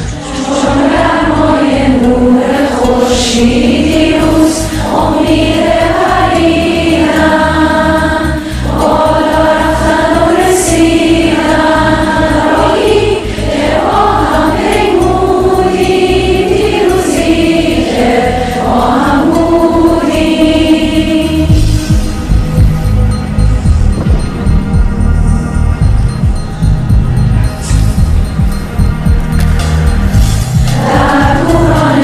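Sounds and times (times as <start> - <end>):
choir singing held notes: 0.0 - 32.0
low musical accompaniment: 0.0 - 32.0.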